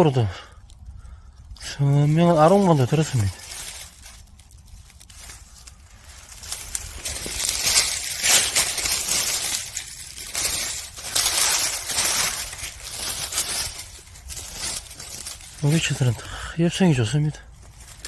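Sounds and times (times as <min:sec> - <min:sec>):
dry leaves rustling and crackling: 0:00.0 - 0:18.0.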